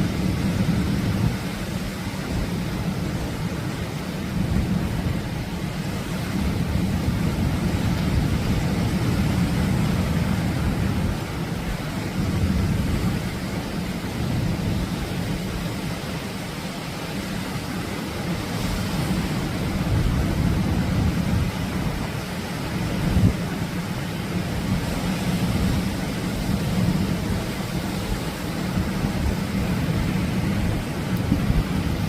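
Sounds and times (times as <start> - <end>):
surf breaking on a beach: 0.0 - 32.0.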